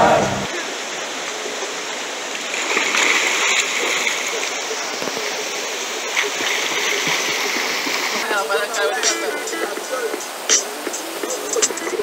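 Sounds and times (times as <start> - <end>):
river water running over rocks: 0.0 - 12.0.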